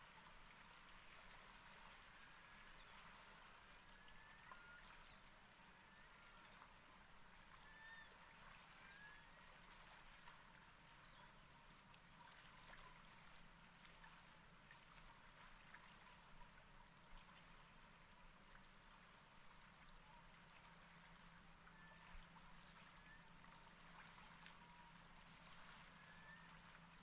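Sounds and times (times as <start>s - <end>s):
sea water trickling and lapping: 0.0s - 27.0s.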